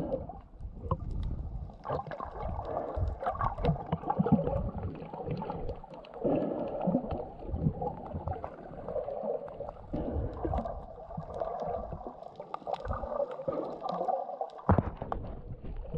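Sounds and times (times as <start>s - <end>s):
underwater swishing and gurgling: 0.0s - 15.9s.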